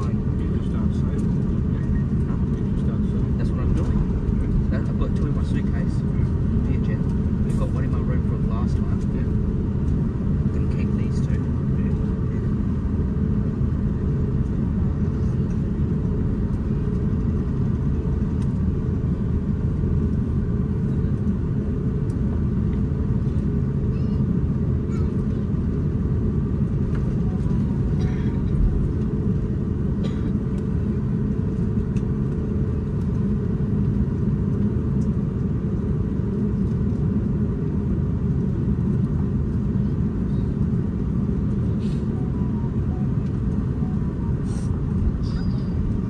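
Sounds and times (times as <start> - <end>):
airplane cabin rumble: 0.0 - 46.0.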